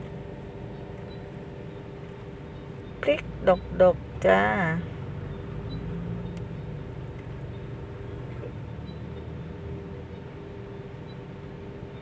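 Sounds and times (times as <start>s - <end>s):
engine running rumble: 0.0s - 12.0s
faint constant drone: 0.0s - 12.0s.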